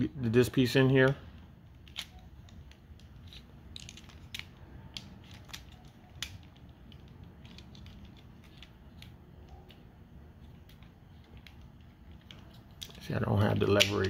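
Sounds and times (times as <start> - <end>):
plastic rubbing: 1.6 - 14.0.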